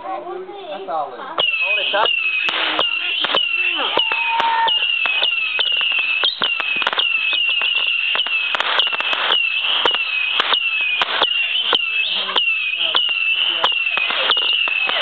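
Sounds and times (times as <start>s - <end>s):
firework cracks and pops: 1.4s - 15.0s
firework whistling: 1.4s - 15.0s.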